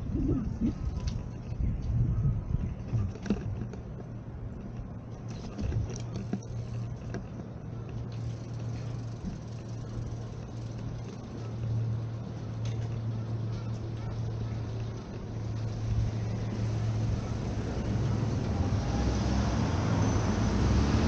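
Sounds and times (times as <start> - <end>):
steady low city hum: 0.0 - 21.0.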